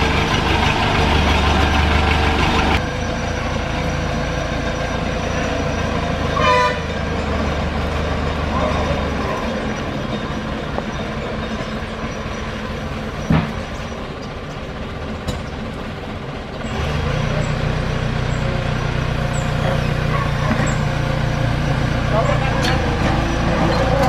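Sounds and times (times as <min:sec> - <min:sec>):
diesel engine running and revving: 0:00.0 - 0:24.0.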